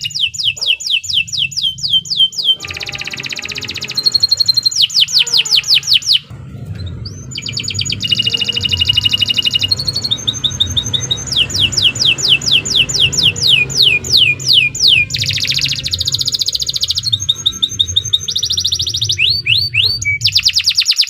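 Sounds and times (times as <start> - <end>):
canary singing rapid trills: 0.0 - 21.0.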